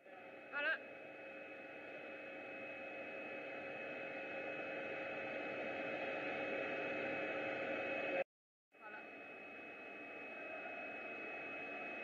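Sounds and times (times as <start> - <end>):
machine humming with held tones: 0.0 - 8.2, 8.8 - 12.0.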